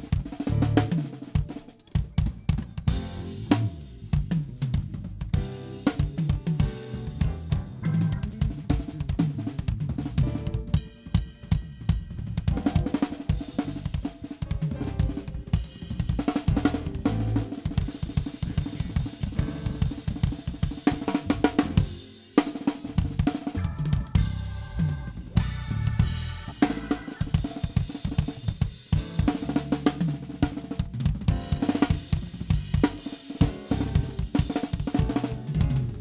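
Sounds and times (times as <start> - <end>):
bass guitar: 0.0 - 22.1, 22.9 - 36.0
drum kit playing: 0.0 - 36.0.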